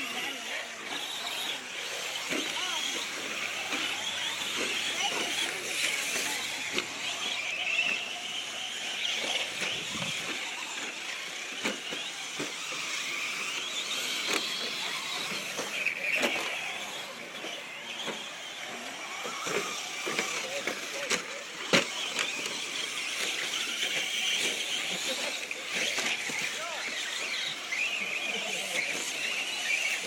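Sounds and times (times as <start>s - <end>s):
toy truck motors whining: 0.0s - 30.0s.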